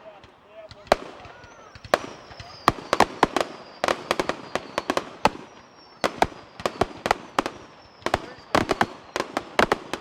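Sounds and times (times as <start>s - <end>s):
fireworks bangs: 0.0s - 10.0s
faint high whistle gliding down: 1.2s - 9.4s.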